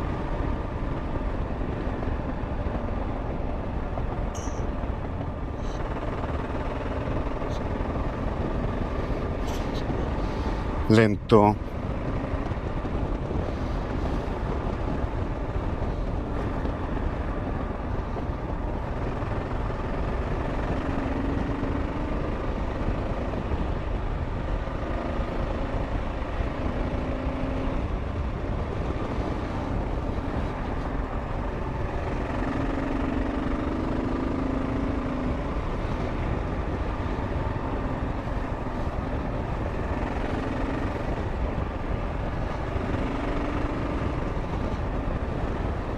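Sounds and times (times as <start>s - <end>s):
motorcycle running: 0.0s - 45.9s
wind rushing over microphone: 0.0s - 45.9s.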